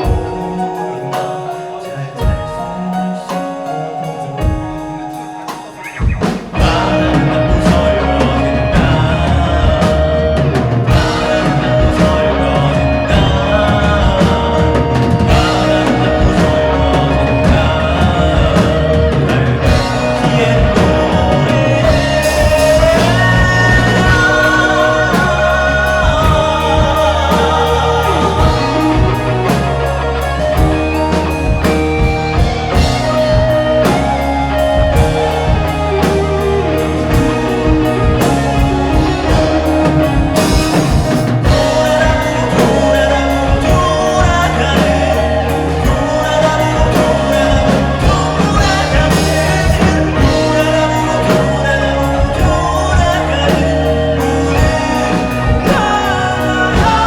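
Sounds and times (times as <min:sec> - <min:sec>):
live band with singer: 0:00.0 - 0:57.0.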